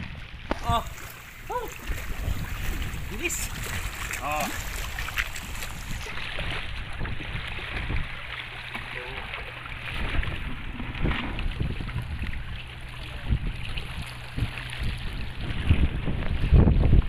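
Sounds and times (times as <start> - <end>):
wind buffeting microphone: 0.0 - 8.6, 9.2 - 17.0
seawater washing: 0.0 - 17.0.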